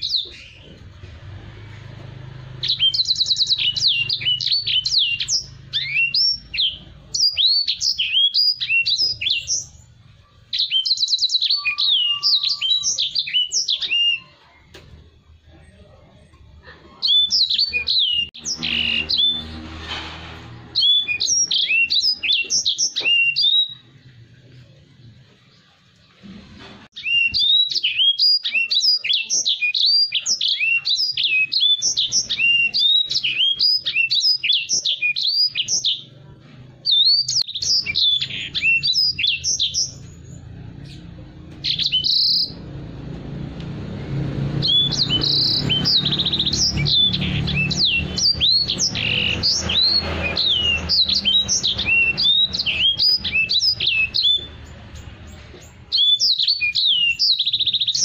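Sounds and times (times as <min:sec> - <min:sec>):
bird twittering song: 0:00.0 - 0:00.9, 0:02.4 - 0:14.5, 0:17.0 - 0:19.6, 0:20.8 - 0:25.6, 0:27.0 - 0:36.2, 0:36.8 - 0:42.8, 0:44.6 - 0:58.0.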